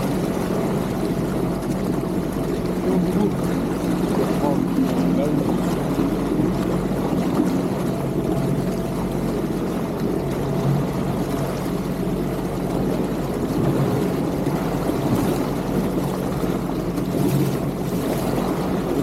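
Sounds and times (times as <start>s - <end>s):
jet ski engine running: 0.0s - 19.0s
water noise: 0.0s - 19.0s.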